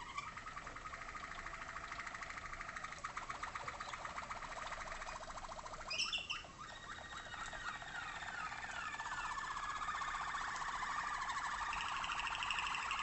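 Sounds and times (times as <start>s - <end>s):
canary singing rolling trill: 0.0s - 13.0s.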